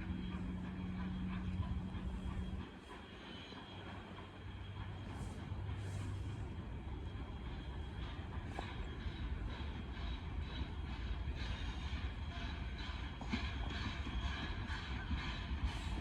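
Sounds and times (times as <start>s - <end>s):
train rumbling by: 0.0s - 16.0s.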